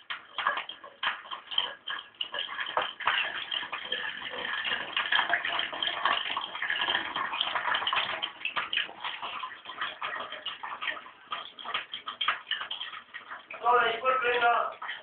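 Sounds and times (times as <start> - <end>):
tap water splashing into a sink: 0.0 - 15.0.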